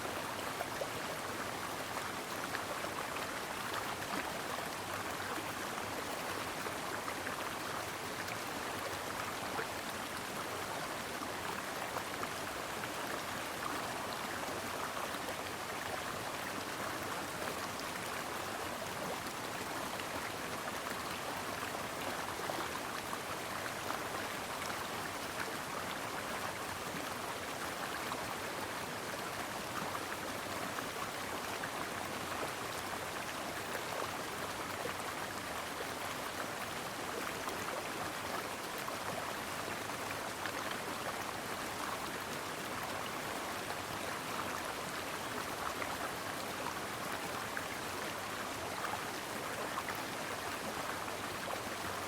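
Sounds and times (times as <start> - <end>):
brook babbling over stones: 0.0 - 52.0.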